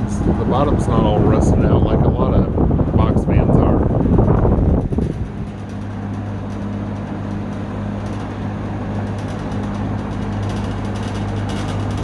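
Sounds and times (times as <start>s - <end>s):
air rushing from fan blades: 0.0s - 12.0s
fan motor hum: 0.0s - 12.0s.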